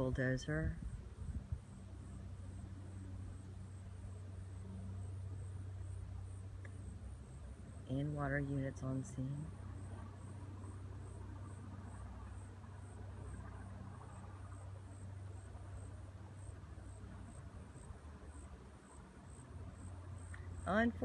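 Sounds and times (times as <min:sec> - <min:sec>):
insect chirping: 0:00.0 - 0:21.0
low steady rumble: 0:00.0 - 0:21.0.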